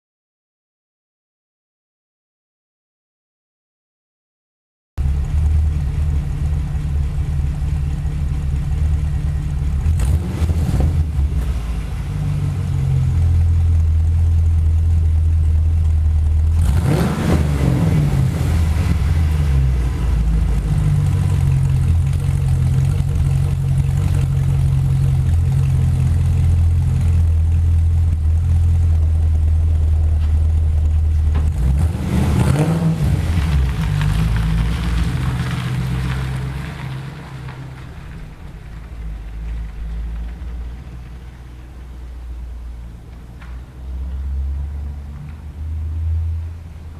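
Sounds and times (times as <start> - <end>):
car engine idling and revving: 5.0 - 46.9.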